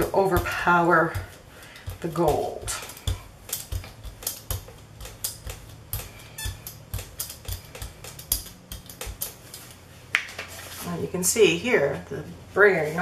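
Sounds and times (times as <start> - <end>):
rubber roller clicking on paint: 0.0 - 10.6.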